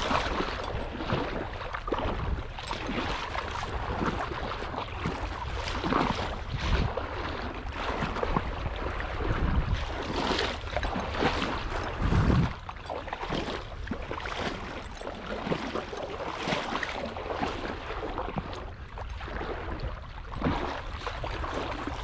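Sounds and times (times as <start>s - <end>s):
wading through water: 0.0s - 22.0s
wind rumble on microphone: 0.0s - 22.0s.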